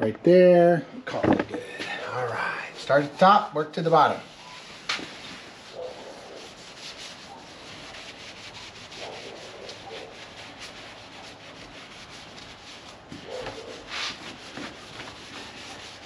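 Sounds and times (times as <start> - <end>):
towel rubbing on metal panel: 2.9 - 16.0.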